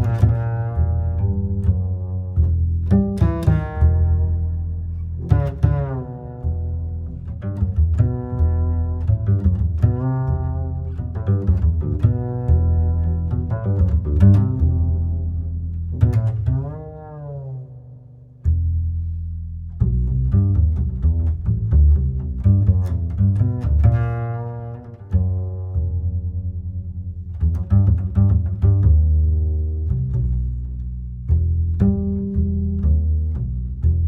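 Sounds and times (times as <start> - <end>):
plucked and bowed low strings: 0.0 - 34.0
steady bass line: 0.0 - 34.0.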